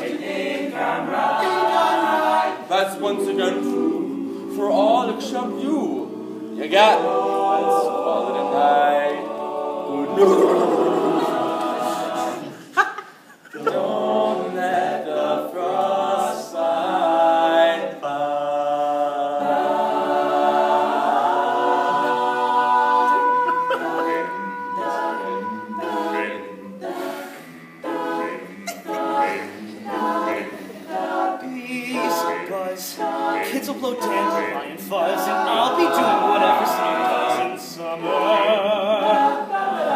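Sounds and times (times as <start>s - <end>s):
male a cappella group singing: 0.0s - 12.7s, 13.6s - 39.9s.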